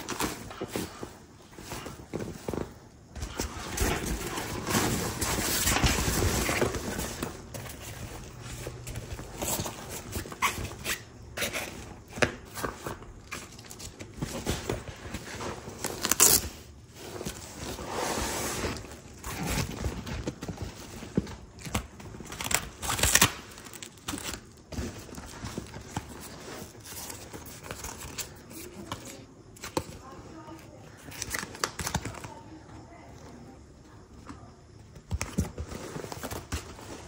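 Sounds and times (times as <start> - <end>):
packaging rustling and crinkling: 0.0 - 32.9, 35.0 - 37.0.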